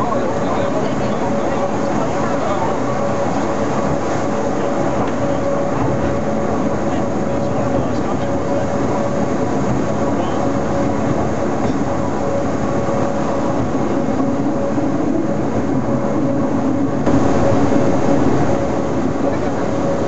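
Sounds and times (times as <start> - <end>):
railcar motors rumbling and humming: 0.0 - 20.0
steady whine: 0.0 - 20.0.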